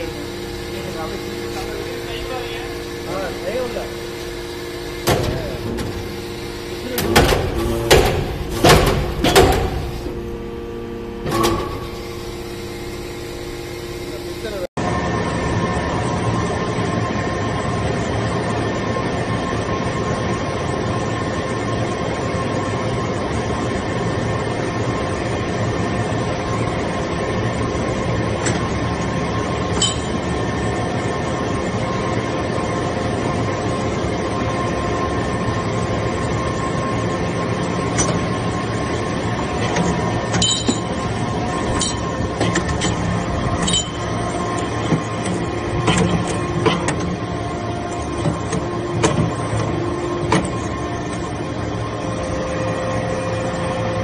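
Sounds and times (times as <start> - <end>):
baler machine humming: 0.0 - 54.0.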